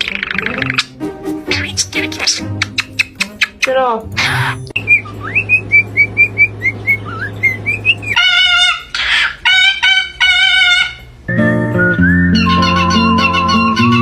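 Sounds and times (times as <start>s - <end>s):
parrot squawk: 0.0s - 11.1s, 12.4s - 14.0s
parrot chirping: 0.0s - 11.2s, 12.0s - 14.0s.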